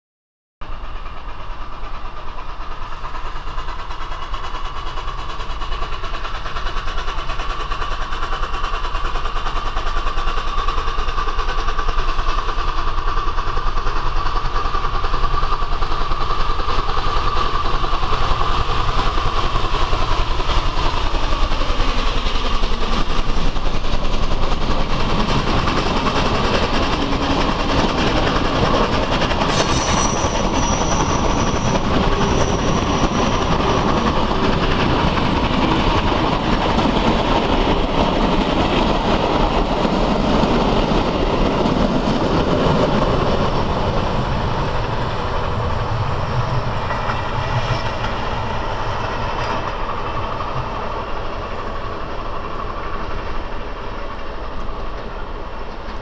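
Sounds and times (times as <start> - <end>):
steam locomotive passing: 0.6 - 56.0.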